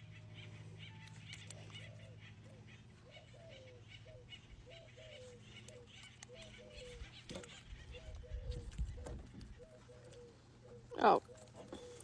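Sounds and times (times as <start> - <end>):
farm fowl calling: 0.0 - 12.0.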